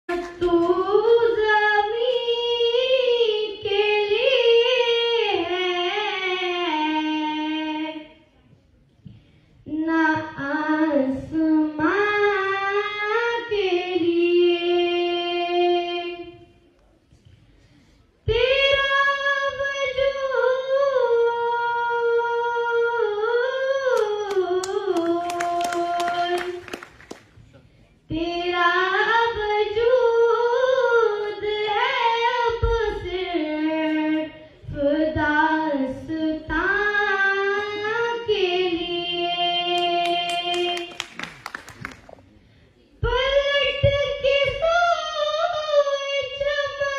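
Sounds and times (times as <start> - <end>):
girl singing unaccompanied: 0.1 - 8.2, 9.7 - 16.5, 18.2 - 26.8, 28.1 - 41.1, 43.0 - 46.9.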